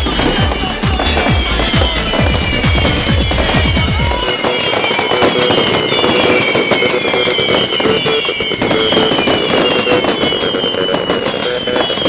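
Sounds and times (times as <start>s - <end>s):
falling firework whistles: 0.0s - 12.0s
fireworks crackling: 0.0s - 12.0s.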